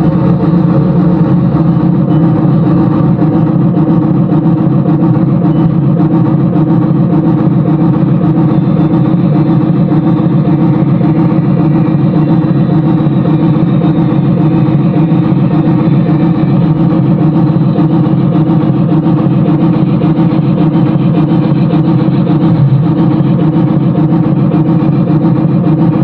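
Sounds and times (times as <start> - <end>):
vehicle running noise: 0.0 - 26.0.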